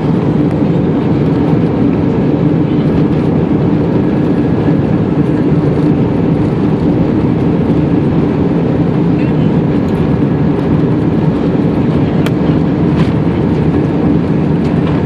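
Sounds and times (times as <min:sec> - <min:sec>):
airliner cabin engine noise: 0:00.0 - 0:15.0.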